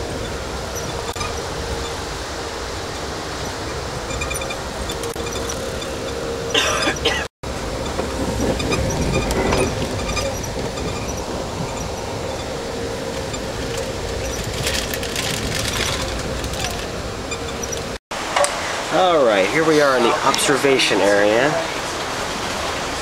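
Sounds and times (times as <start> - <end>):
train rumble and hiss: 0.0 - 23.0.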